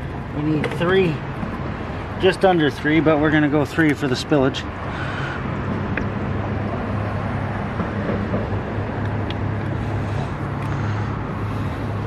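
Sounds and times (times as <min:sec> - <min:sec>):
low engine hum: 0:00.0 - 0:12.0
road traffic noise: 0:00.0 - 0:12.0.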